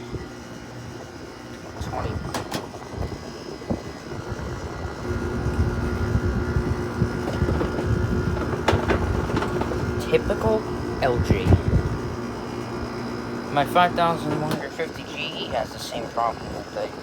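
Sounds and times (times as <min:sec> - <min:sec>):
steady hum: 0:00.0 - 0:17.0
window air conditioner running: 0:00.0 - 0:17.0.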